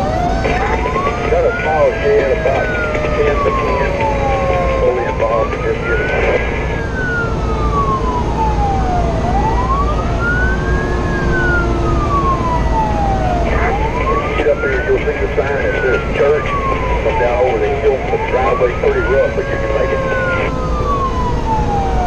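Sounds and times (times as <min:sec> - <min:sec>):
engine and road rumble: 0:00.0 - 0:22.0
fire engine siren wailing: 0:00.0 - 0:22.0.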